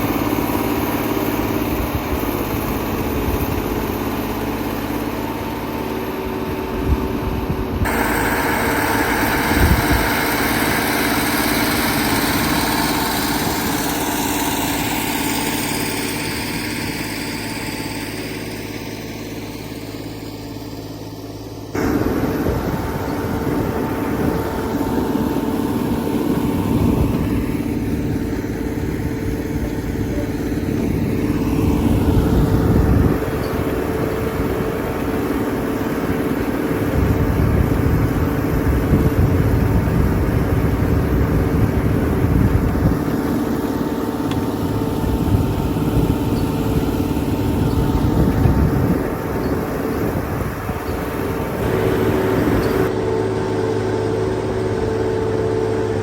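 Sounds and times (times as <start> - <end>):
tractor diesel engine rumbling: 0.0 - 56.0.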